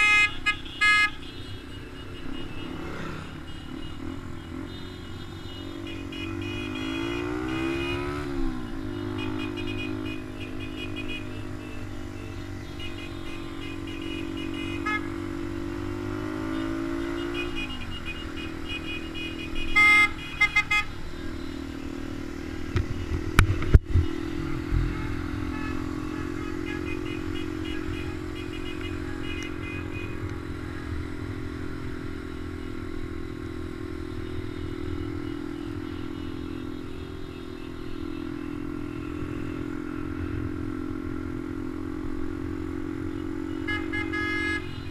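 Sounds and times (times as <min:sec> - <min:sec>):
horn tooting: 0:00.0 - 0:40.8, 0:41.9 - 0:44.9.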